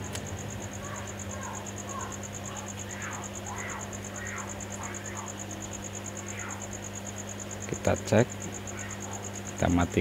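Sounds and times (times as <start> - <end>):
insect chirping: 0.0 - 10.0
low electrical hum: 0.0 - 10.0.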